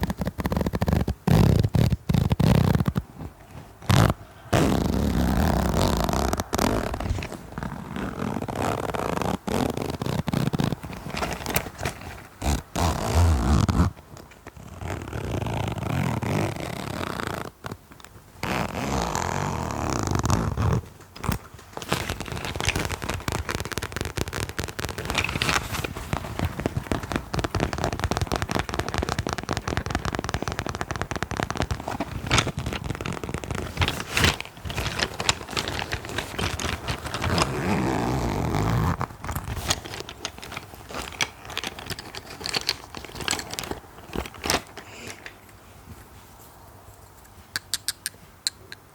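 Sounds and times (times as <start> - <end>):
scratching and rubbing: 0.0 - 45.4.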